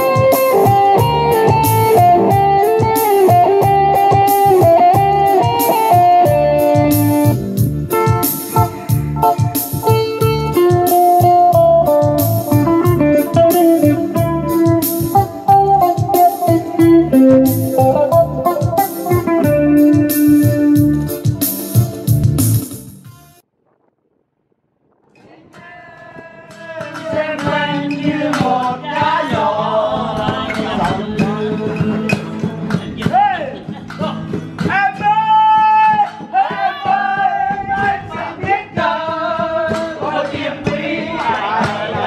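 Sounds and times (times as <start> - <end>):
guitar instrumental with steady beat: 0.0 - 23.5, 26.7 - 42.0.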